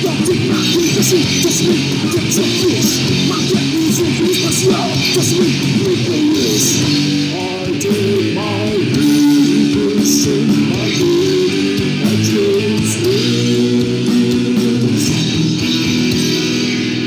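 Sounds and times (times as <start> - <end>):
bass guitar: 0.0 - 17.0
electric guitar: 0.0 - 17.0.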